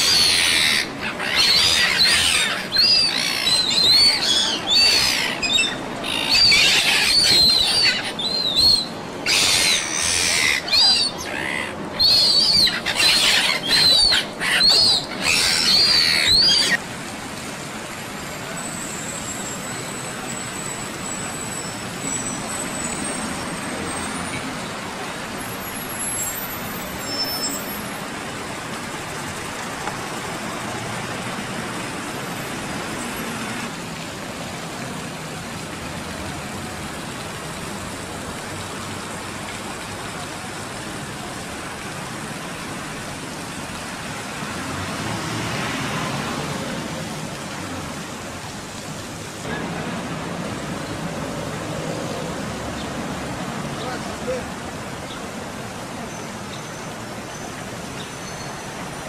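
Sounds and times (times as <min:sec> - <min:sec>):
city street traffic: 0:00.0 - 0:59.0.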